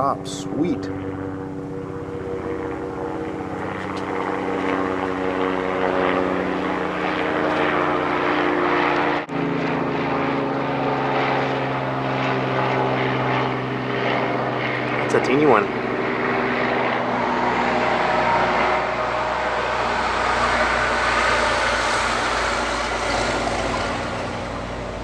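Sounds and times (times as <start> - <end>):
helicopter engine and rotor drone: 0.0 - 25.0.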